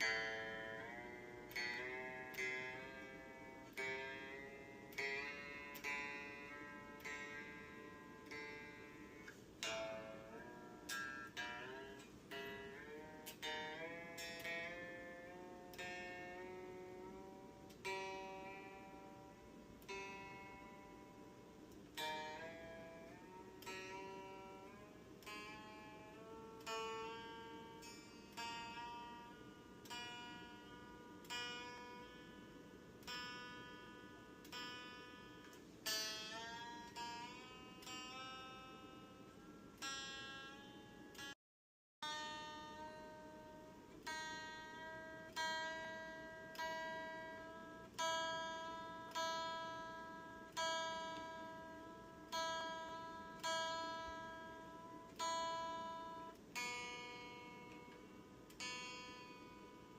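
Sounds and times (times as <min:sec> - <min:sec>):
electric guitar strings plucked: 0:00.0 - 0:41.4, 0:42.0 - 0:59.9.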